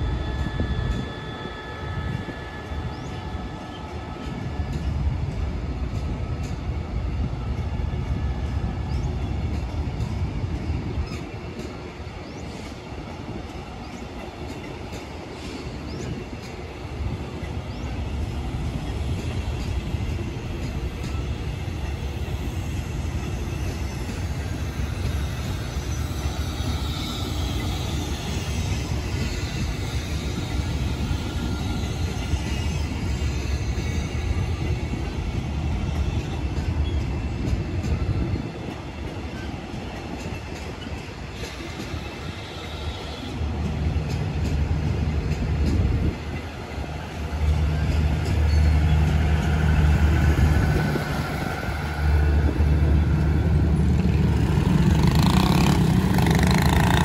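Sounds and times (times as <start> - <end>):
train coaches rumbling past: 0.0 - 57.0.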